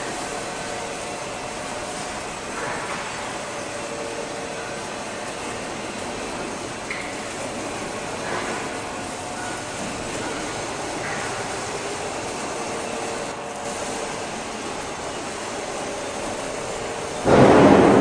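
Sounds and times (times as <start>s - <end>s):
workshop machinery running: 0.0s - 18.0s.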